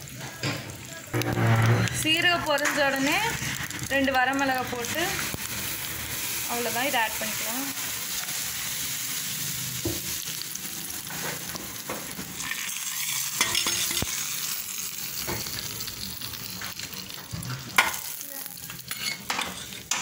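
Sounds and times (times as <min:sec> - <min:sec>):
hot oil sizzling: 0:00.0 - 0:20.0.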